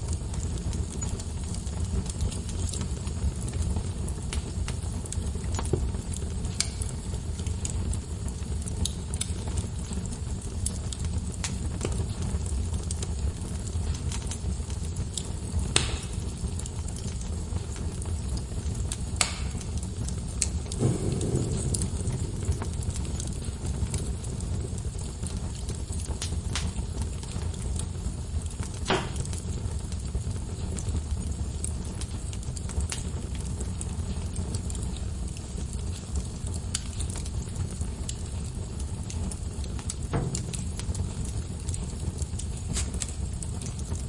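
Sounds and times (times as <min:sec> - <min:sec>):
low rumble of flame: 0:00.0 - 0:44.0
wood fire crackling: 0:00.0 - 0:44.0.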